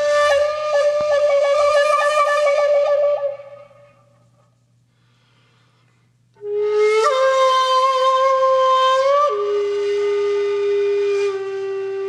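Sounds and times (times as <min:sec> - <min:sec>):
reedy wind instrument melody: 0:00.0 - 0:04.1, 0:06.4 - 0:12.0.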